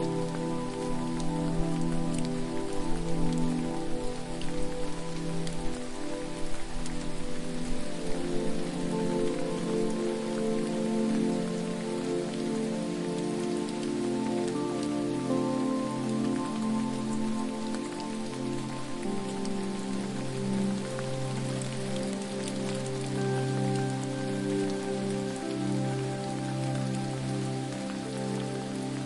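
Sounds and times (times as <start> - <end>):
soft music of held chords: 0.0 - 29.0
steady falling water: 0.0 - 29.0.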